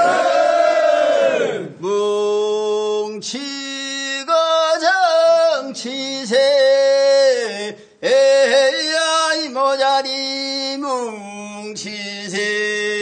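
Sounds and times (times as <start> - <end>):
man singing work song: 1.8 - 13.0.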